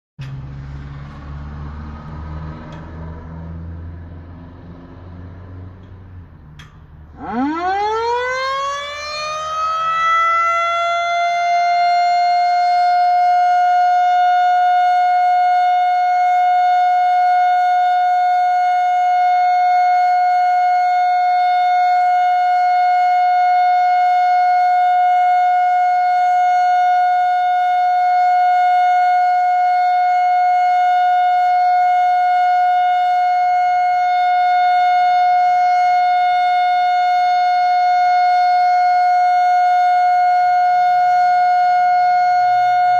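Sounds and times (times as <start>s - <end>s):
warning siren wailing: 0.2s - 5.8s, 6.6s - 42.9s.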